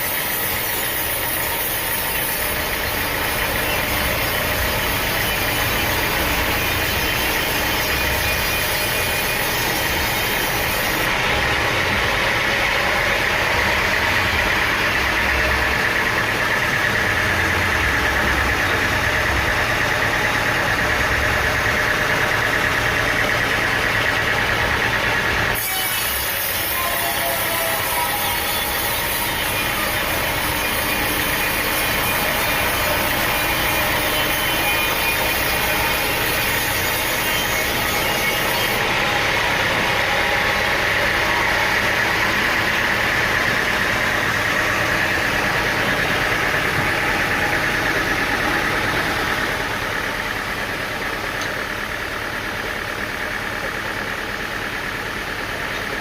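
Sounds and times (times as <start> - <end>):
high whine: 0.0 - 56.0
sawmill machinery running: 0.0 - 56.0.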